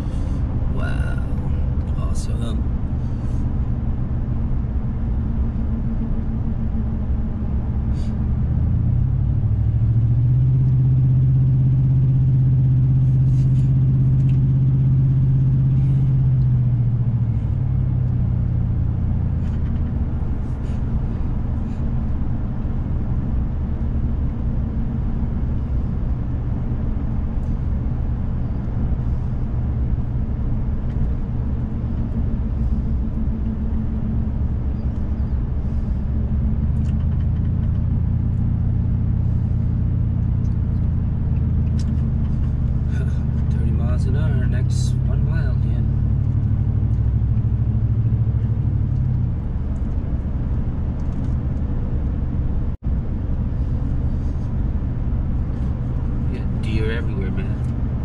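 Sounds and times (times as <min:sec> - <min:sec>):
car engine: 0:00.0 - 0:58.0
road noise: 0:00.0 - 0:58.0.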